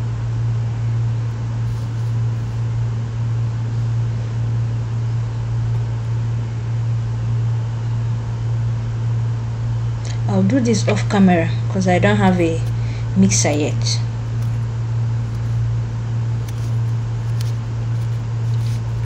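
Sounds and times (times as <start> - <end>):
steady low hum with hiss: 0.0 - 19.0.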